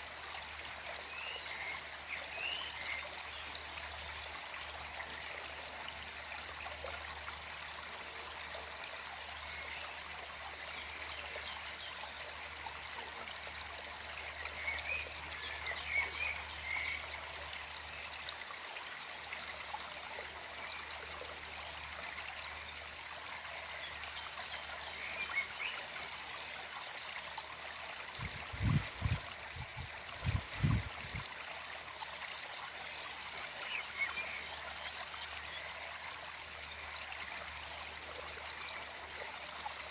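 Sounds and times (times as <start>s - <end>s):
forest stream flowing: 0.0s - 39.9s.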